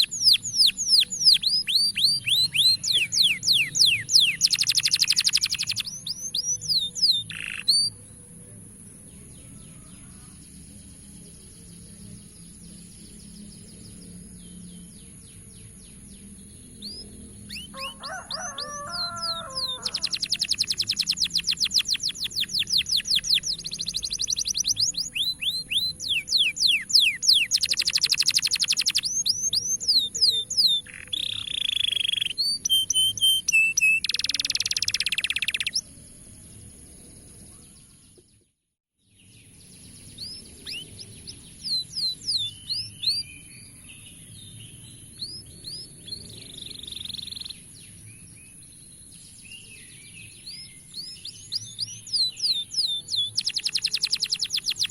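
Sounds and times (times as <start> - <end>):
canary trills and chirps: 0.0 - 8.0, 13.0 - 35.9, 39.5 - 48.3, 49.8 - 54.9.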